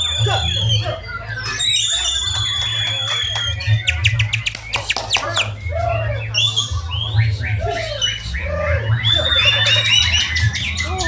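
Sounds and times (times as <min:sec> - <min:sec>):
birds singing whistles and chirps: 0:00.0 - 0:11.0.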